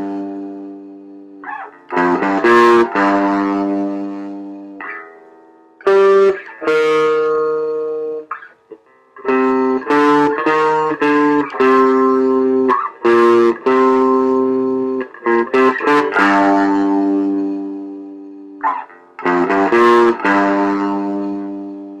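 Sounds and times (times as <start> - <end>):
electric guitar riff: 0.0 - 22.0.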